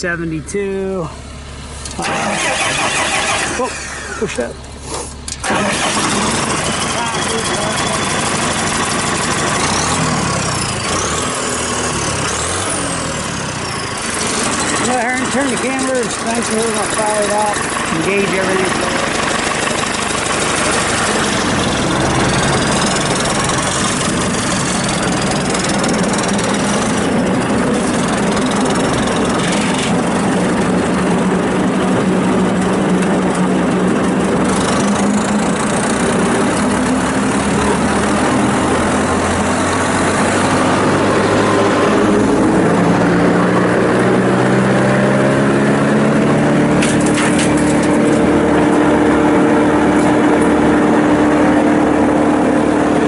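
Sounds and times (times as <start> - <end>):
wood chipper diesel engine running: 0.0 - 53.0.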